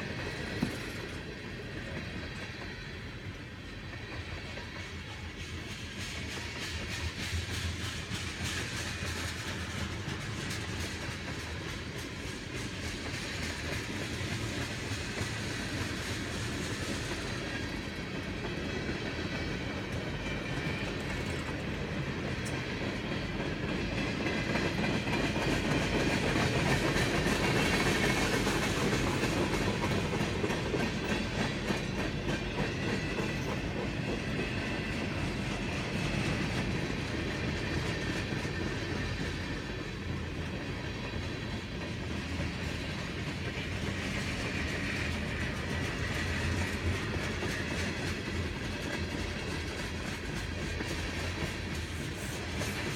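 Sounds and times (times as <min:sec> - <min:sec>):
steel wheels rumbling on rails: 0:00.0 - 0:52.9.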